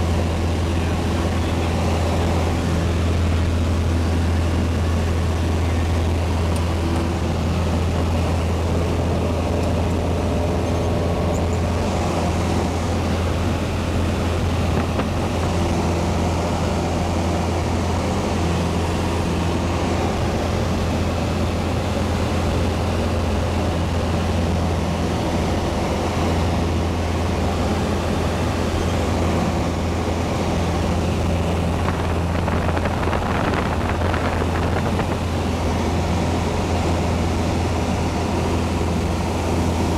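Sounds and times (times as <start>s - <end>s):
aircraft propeller engine droning: 0.0s - 39.9s.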